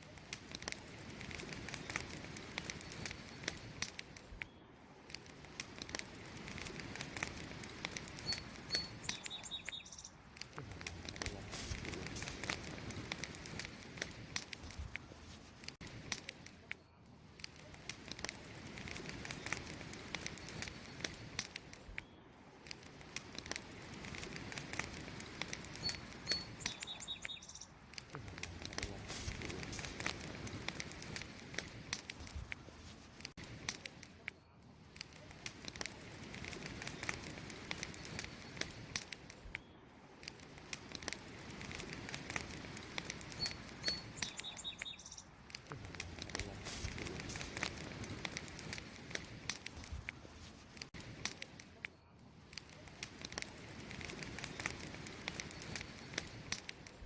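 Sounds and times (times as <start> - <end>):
soft fire hiss: 0.0 - 57.0
wood fire crackling and popping: 0.0 - 57.0.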